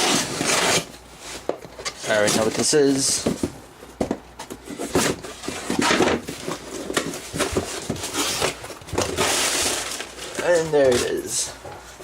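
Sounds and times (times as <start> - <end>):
packaging rustling and scraping: 0.0 - 12.0.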